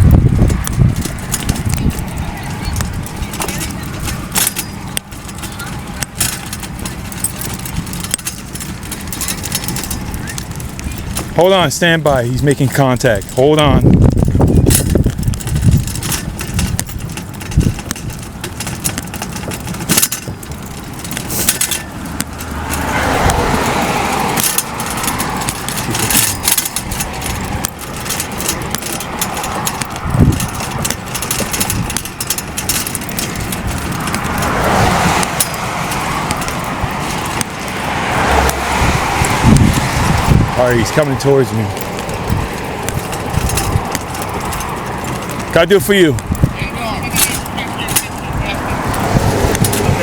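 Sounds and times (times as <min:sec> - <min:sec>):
road traffic passing: 0:00.0 - 0:50.0.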